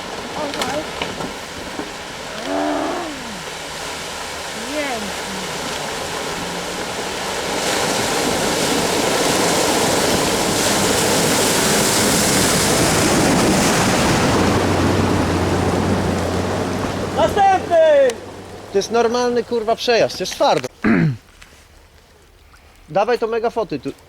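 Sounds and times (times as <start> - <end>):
water splashing: 0.0 - 20.8.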